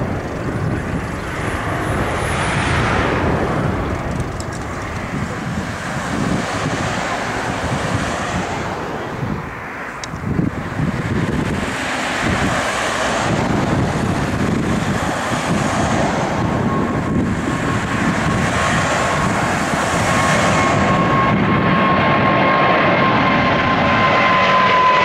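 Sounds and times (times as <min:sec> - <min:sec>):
jet engines roaring: 0:00.0 - 0:25.0
steady whine: 0:00.0 - 0:25.0.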